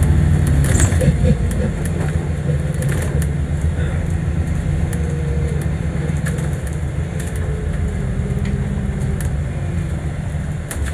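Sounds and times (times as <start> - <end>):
bus engine drone: 0.0 - 10.9.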